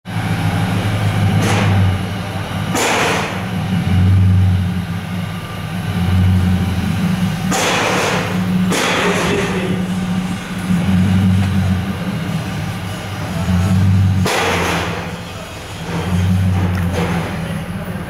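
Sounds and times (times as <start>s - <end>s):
car engine idling: 0.1s - 18.0s.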